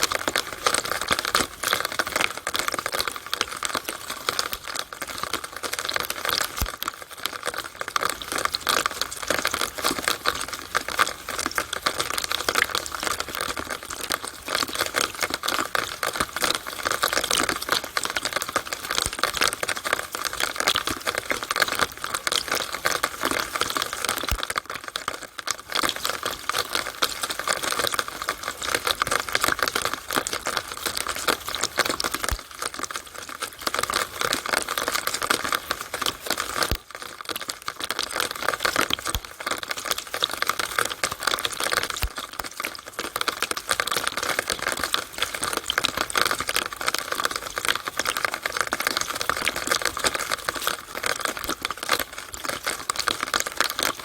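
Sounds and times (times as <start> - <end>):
rainwater dripping and splashing: 0.0 - 54.0.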